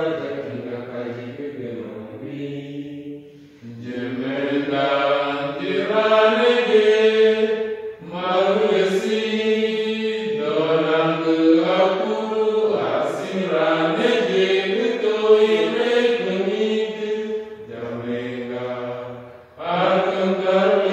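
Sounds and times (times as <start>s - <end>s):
group singing chant-like song: 0.0s - 20.9s.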